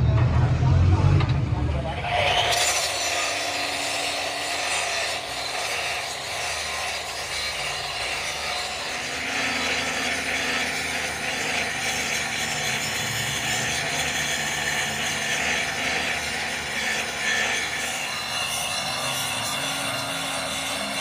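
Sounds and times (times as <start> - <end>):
angle grinder grinding metal: 1.1 - 21.0.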